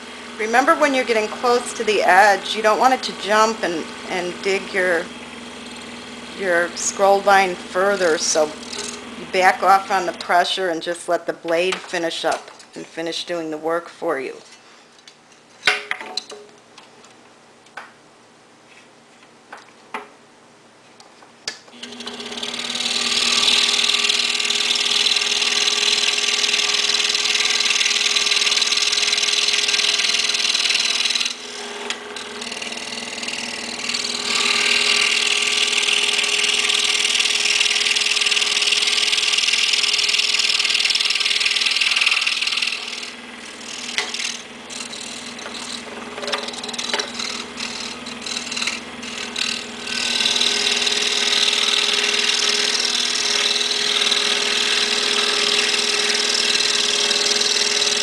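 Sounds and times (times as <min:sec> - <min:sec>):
saw blade cutting wood: 0:00.0 - 0:10.9, 0:21.8 - 0:58.0
scroll saw humming: 0:00.0 - 0:13.4, 0:21.7 - 0:58.0.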